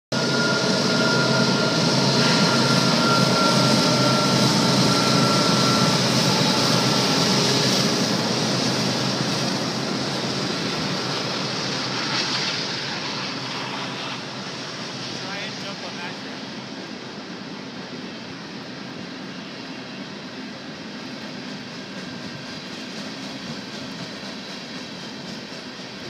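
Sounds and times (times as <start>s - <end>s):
diesel locomotive engines running: 0.1s - 26.0s
freight cars rolling on rails: 0.2s - 16.7s, 20.4s - 26.0s.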